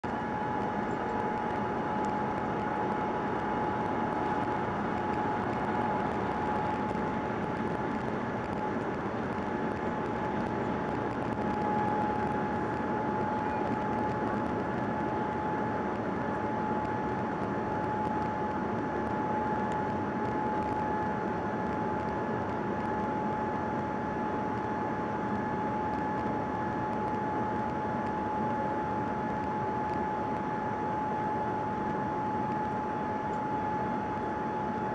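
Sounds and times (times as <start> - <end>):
airliner cabin rush of air: 0.0 - 34.9
steady high whine: 0.0 - 34.9.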